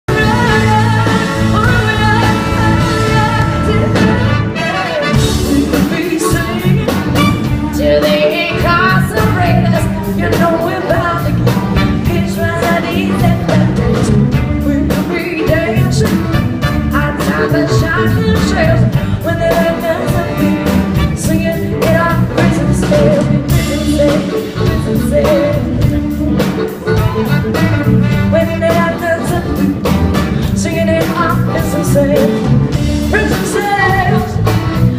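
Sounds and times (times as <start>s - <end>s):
live band playing: 0.0s - 34.9s
woman singing: 0.1s - 34.9s.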